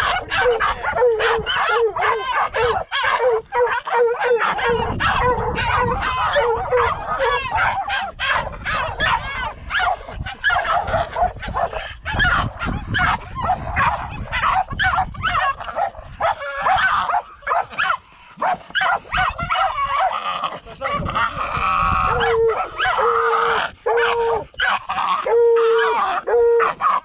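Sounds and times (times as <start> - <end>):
dogs barking and yelping: 0.0 - 27.0
dogs whining yelps: 0.0 - 27.0.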